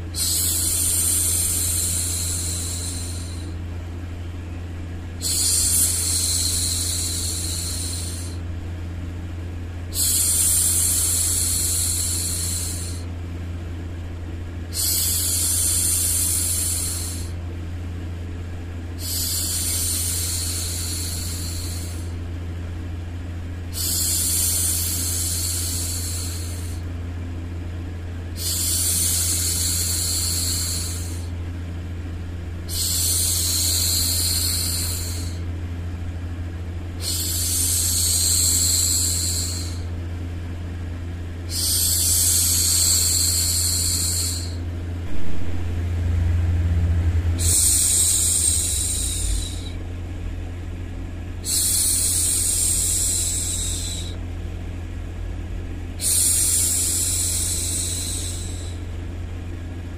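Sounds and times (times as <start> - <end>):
low rumbling noise: 0.0 - 8.9, 9.5 - 17.4, 28.0 - 59.9.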